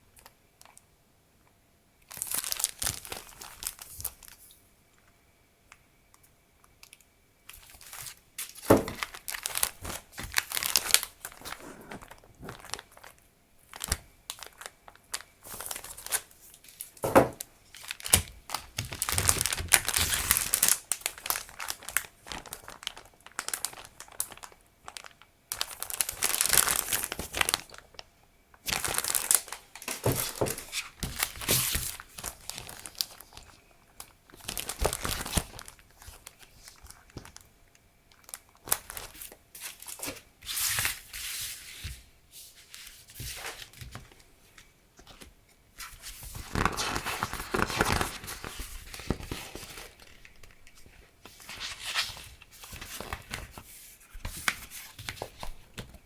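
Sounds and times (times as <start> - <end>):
plastic and paper crinkling: 2.1 - 4.5, 7.5 - 28.0, 28.6 - 37.5, 38.1 - 56.0.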